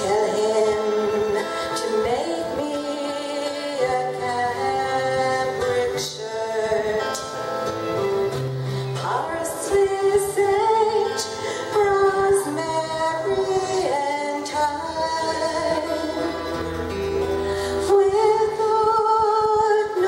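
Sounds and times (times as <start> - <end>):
woman singing: 0.0 - 7.6, 8.9 - 16.6, 17.5 - 20.0
acoustic guitar strumming: 0.0 - 20.0.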